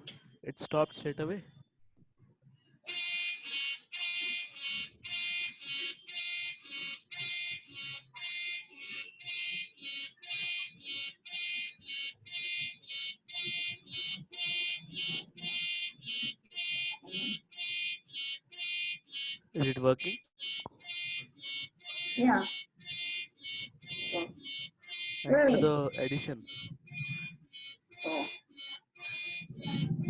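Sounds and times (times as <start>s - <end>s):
rapid electronic alarm beeps: 3.0s - 30.0s.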